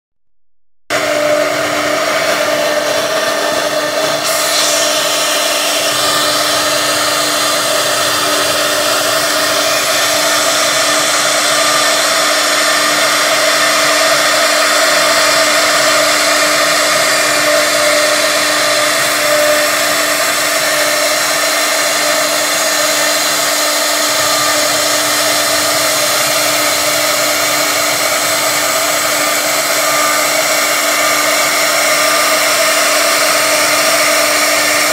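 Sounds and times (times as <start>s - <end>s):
router spindle whine: 0.9s - 34.9s
wood cutting hiss: 1.2s - 34.9s.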